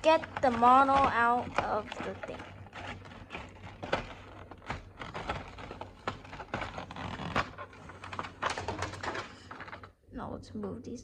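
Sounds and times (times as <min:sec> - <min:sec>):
packaging rustling and scraping: 0:00.0 - 0:10.0.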